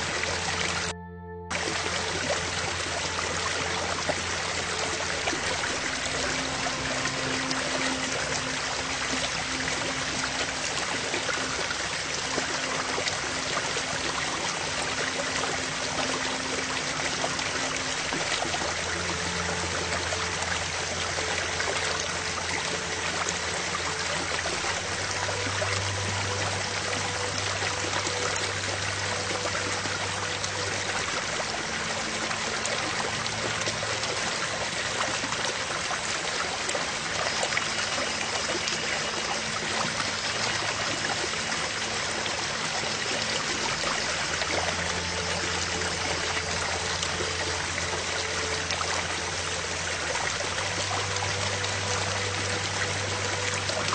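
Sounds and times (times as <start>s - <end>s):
faint held low tones: 0.0s - 53.9s.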